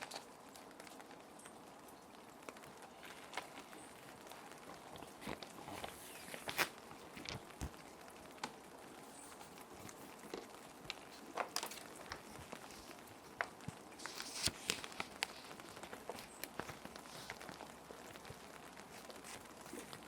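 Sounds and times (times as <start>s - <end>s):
plastic sheet protectors crinkling: 0.0s - 1.0s, 2.6s - 20.0s
rain hissing: 0.0s - 20.0s.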